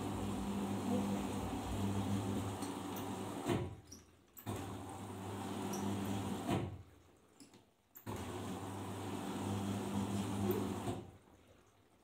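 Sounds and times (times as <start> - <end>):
washing machine motor hum: 0.0 - 7.0, 8.0 - 12.0.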